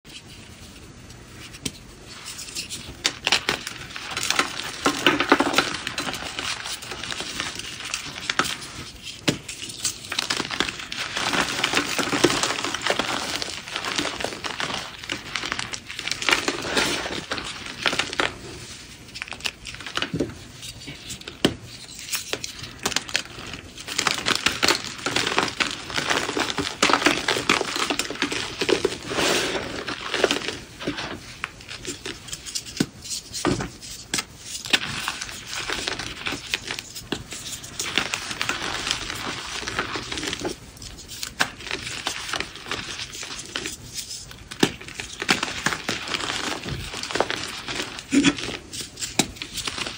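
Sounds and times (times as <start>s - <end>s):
chalk crushed and crumbled by hand: 1.2s - 49.9s.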